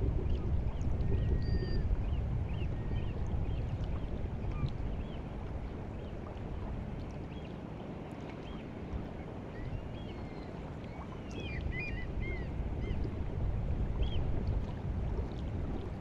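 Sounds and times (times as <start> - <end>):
sea water lapping at shore: 0.0 - 16.0.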